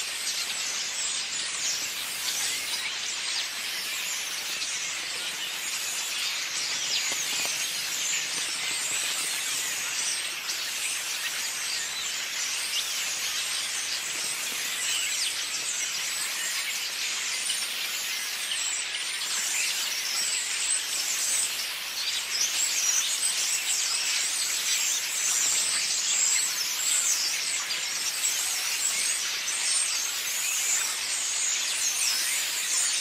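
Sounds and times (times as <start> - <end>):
flock of birds twittering: 0.0 - 33.0.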